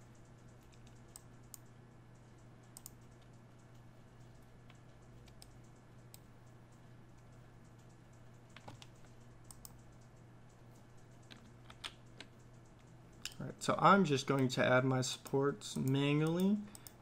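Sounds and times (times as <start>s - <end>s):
steady low hum: 0.0s - 17.0s
faint computer clicks: 0.2s - 13.6s, 15.2s - 17.0s.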